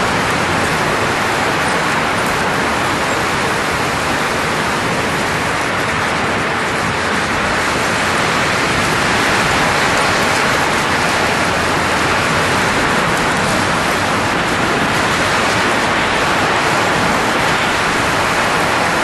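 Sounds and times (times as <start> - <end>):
rushing hiss of blowing air: 0.0 - 19.0.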